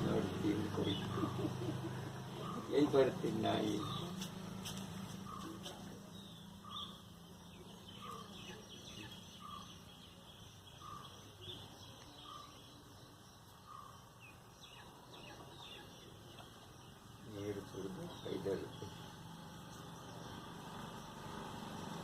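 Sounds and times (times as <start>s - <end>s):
higher bird chirps: 0.0s - 22.0s.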